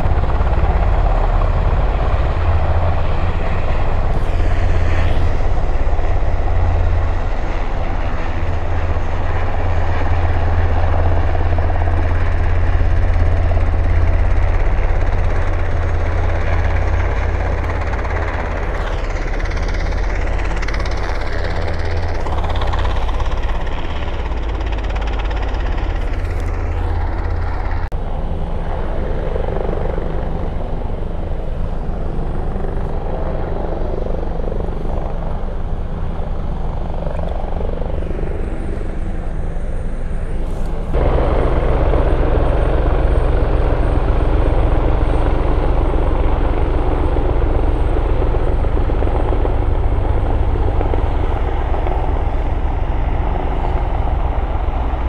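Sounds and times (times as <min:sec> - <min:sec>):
helicopter rotor and turbine engines: 0:00.0 - 0:55.0.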